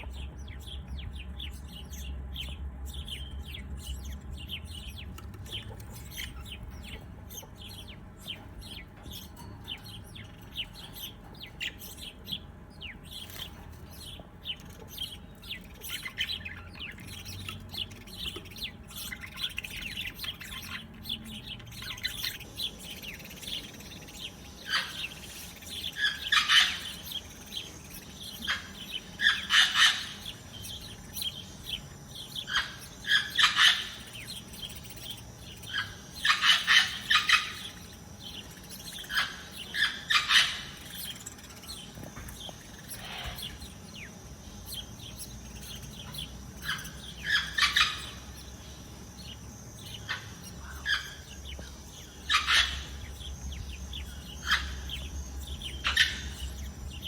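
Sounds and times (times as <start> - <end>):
harsh bird calls: 0.0 - 57.0
small birds chirping: 0.0 - 57.0.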